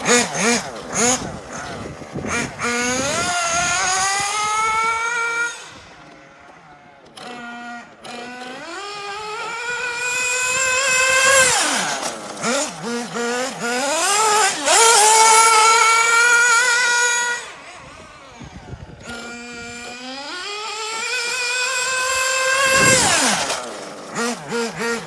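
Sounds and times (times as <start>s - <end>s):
model car engine revving: 0.0s - 25.0s.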